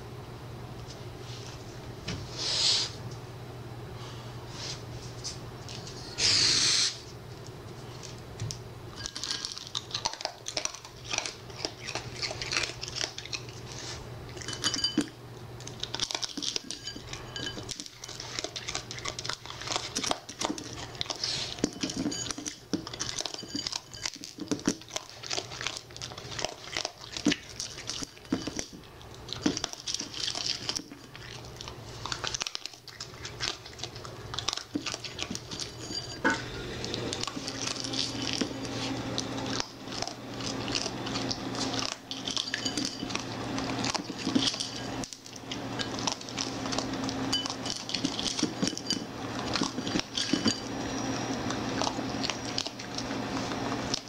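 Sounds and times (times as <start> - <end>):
steady low hum: 0.0 - 54.0
claws clicking on floor and bowl: 7.3 - 54.0.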